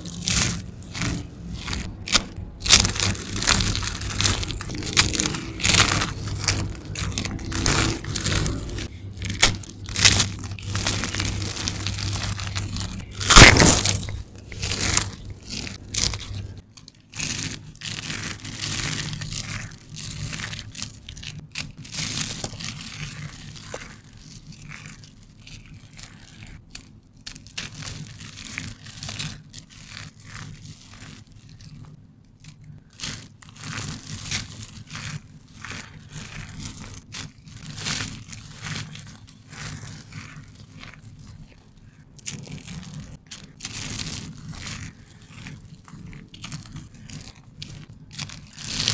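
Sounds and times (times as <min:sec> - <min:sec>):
hands crunching soap flakes: 0:00.0 - 0:48.9.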